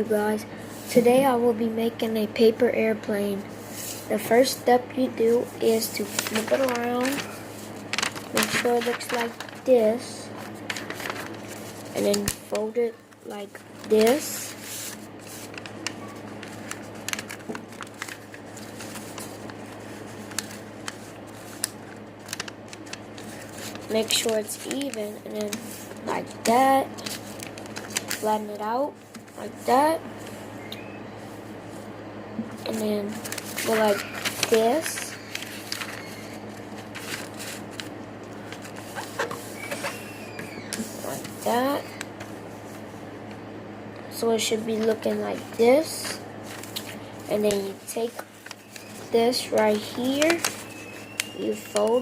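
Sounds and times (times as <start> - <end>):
paper folding and crackling: 3.6 - 30.4, 32.5 - 42.9, 44.4 - 52.0.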